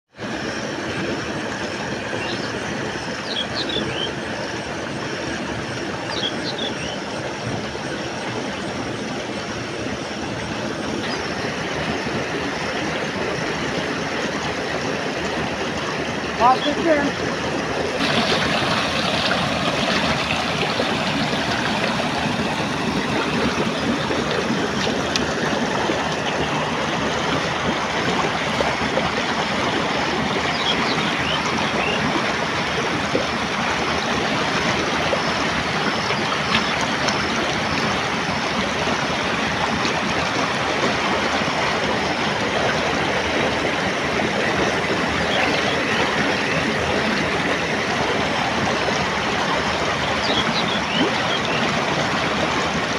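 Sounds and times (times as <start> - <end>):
floodwater rushing down a channel: 0.1 - 52.9
water pouring into a field: 0.1 - 52.9.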